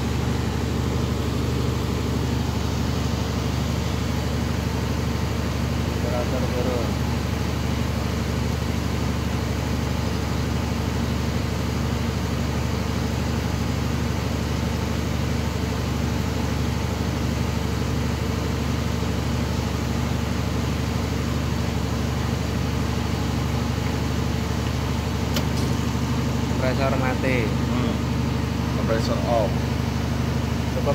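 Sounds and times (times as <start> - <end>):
compressor humming: 0.0 - 30.9
condenser fan rushing: 0.0 - 30.9.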